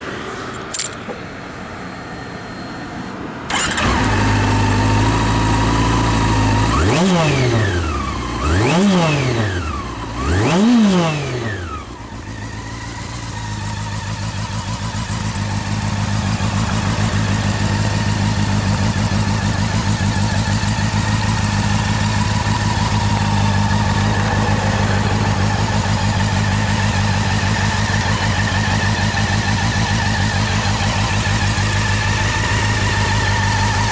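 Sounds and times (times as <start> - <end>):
motorcycle engine idling and revving: 0.0 - 33.9
motorcycle engine starting: 0.0 - 33.9.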